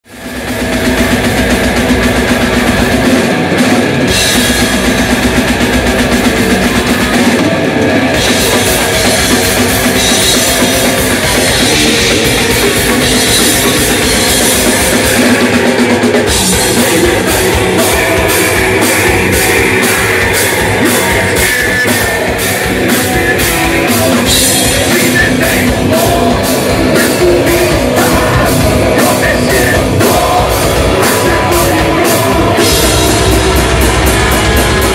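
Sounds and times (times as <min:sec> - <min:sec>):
drum kit: 0:00.0 - 0:34.9
electric guitar: 0:00.0 - 0:34.9.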